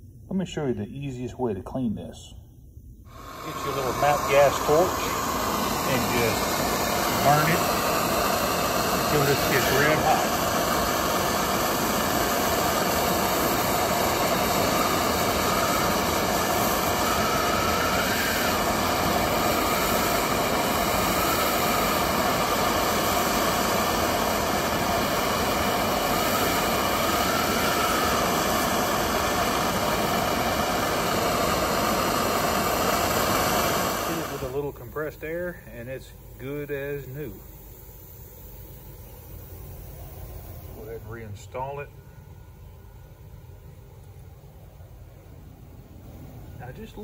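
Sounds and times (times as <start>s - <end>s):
gas torch hissing: 3.0s - 47.0s.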